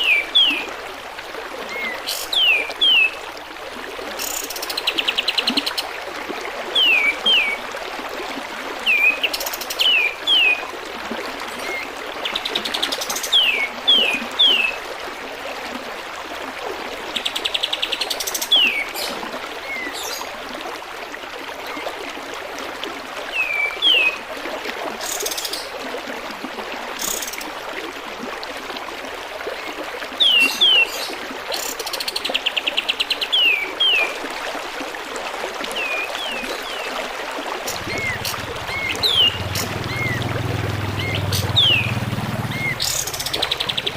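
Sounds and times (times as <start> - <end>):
trickling water: 0.0 - 43.9.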